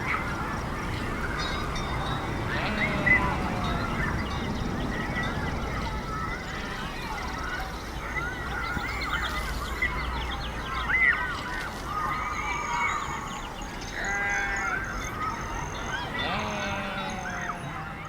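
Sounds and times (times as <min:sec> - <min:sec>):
chorus of birds calling: 0:00.0 - 0:18.0.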